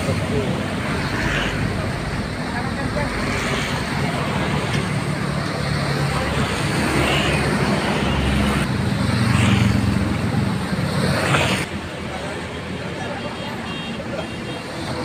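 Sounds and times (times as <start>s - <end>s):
bus diesel engine: 0.0s - 15.0s
wet-road traffic: 0.0s - 15.0s.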